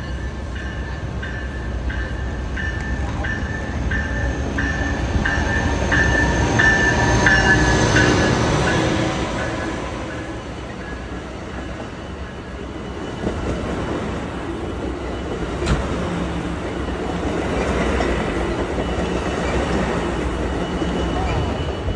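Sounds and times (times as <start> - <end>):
train wheels rumbling on rail: 0.0 - 21.9.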